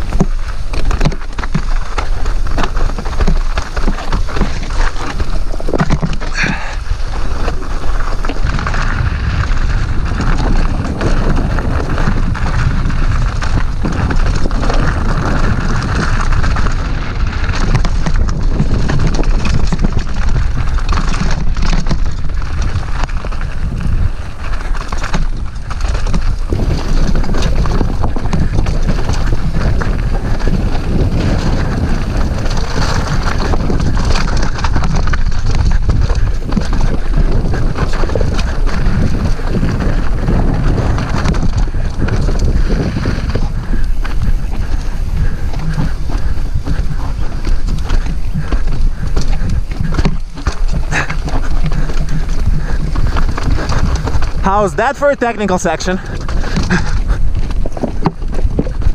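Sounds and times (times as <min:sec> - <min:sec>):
mountain bike rattling: 0:00.0 - 0:58.9
wind on microphone: 0:00.0 - 0:58.9.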